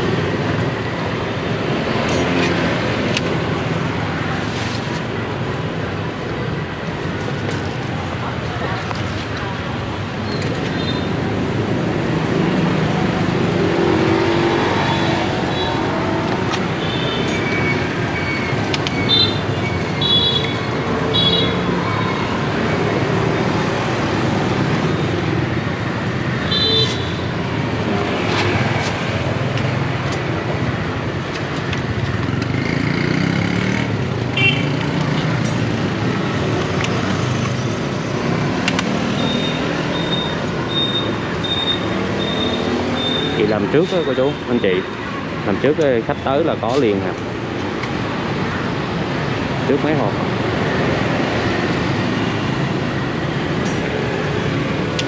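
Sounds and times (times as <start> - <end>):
busy street traffic: 0.0 - 55.0.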